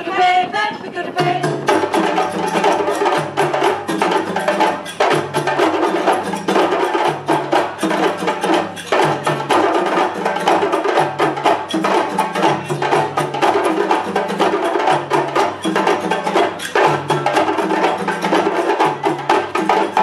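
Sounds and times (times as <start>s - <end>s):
djembe hand drums: 1.1s - 20.0s.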